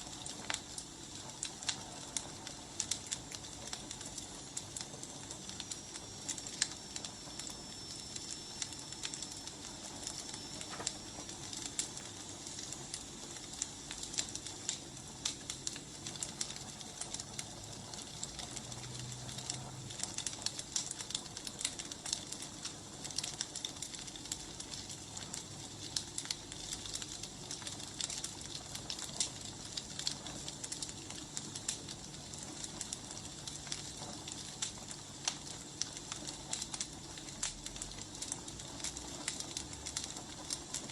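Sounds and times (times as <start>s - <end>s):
firewood crackling and popping: 0.0s - 40.9s.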